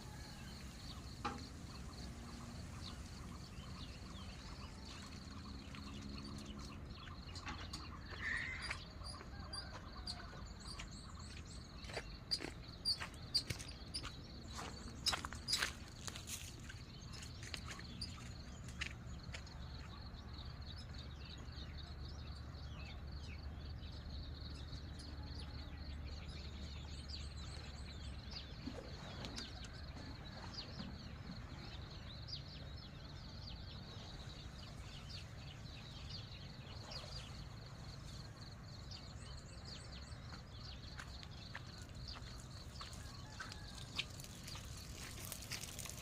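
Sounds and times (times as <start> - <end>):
outdoor background noise: 0.0 - 46.0
small birds chirping: 0.1 - 46.0.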